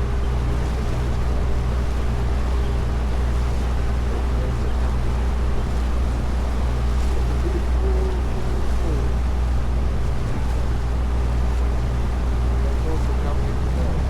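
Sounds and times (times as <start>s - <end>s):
boat engine humming: 0.0s - 14.0s
rushing water: 0.0s - 14.0s
wind: 0.0s - 14.0s.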